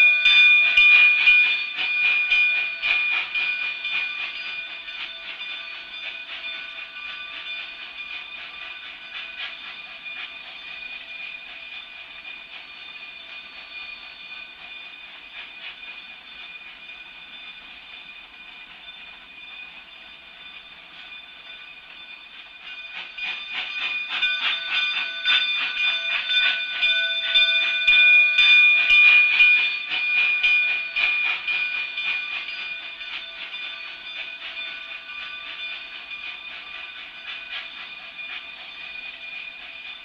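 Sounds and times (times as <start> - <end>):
steam locomotive chuffing: 0.0 - 40.0.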